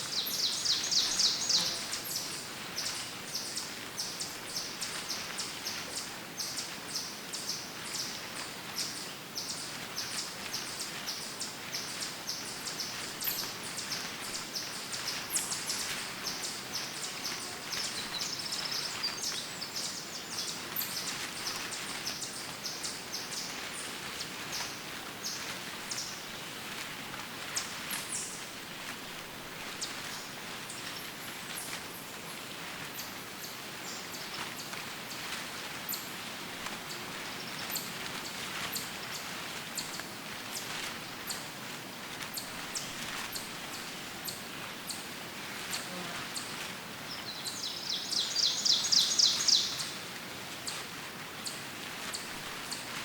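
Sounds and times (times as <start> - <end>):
steady outdoor hiss: 0.0 - 53.0.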